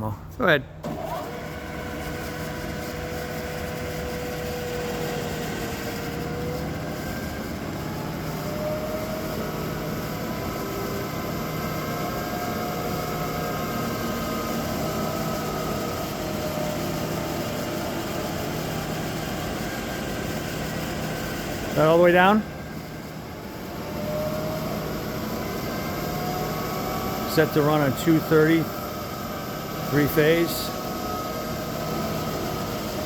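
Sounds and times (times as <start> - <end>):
milling machine spindle hum: 0.8 - 33.0.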